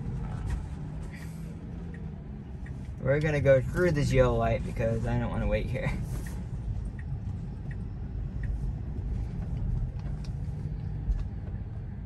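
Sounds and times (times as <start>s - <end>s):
road rumble and tyre noise: 0.0s - 12.0s.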